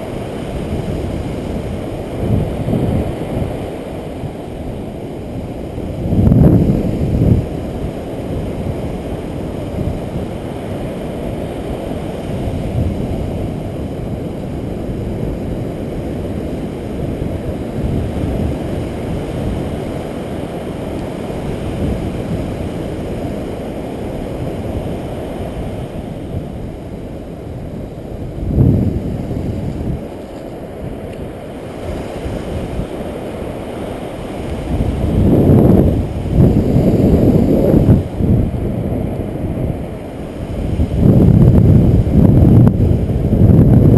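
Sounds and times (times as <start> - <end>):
surf washing on beach: 0.0 - 43.9
wind buffeting microphone: 0.0 - 43.9.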